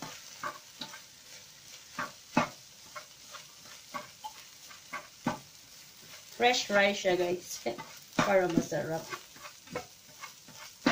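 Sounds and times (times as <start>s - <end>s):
faint sizzle: 0.0s - 10.9s.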